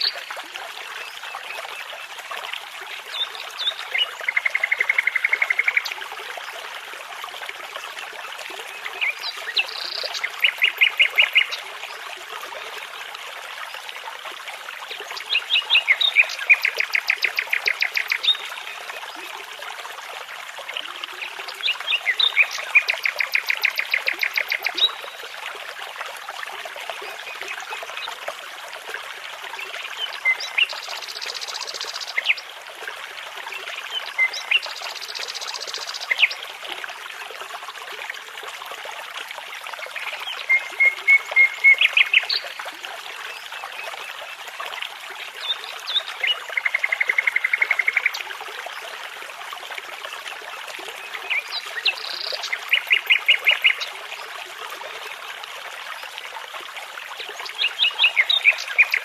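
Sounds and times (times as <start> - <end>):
babbling brook: 0.0 - 59.0.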